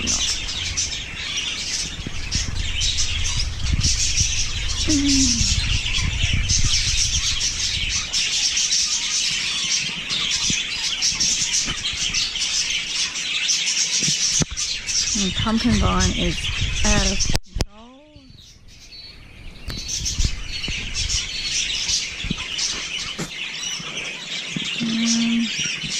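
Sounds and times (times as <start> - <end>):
low microphone rumble: 0.0 - 12.9, 14.4 - 22.6
small birds chirping: 0.0 - 25.9.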